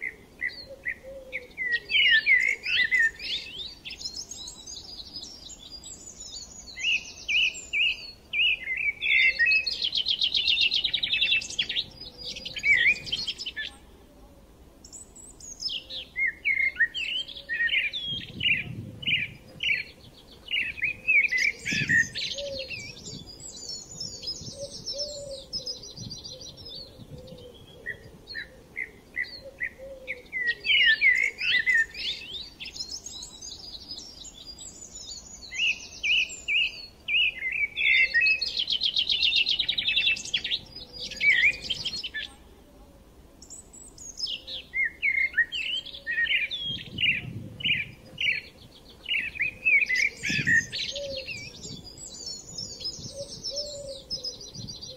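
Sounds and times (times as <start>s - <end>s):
small birds chirping and trilling: 0.0s - 14.0s, 14.8s - 42.6s, 43.4s - 54.9s.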